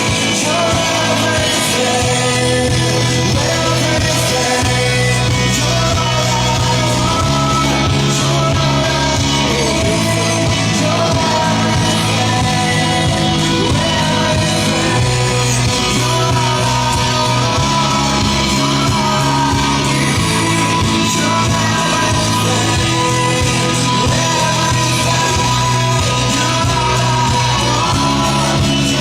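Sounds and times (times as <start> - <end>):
drums: 0.0 - 29.0
guitar: 0.0 - 29.0
person singing: 0.0 - 29.0.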